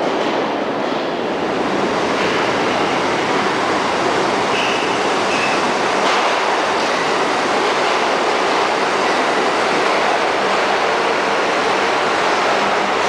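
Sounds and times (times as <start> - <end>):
subway wheel and track rush: 0.0 - 13.0.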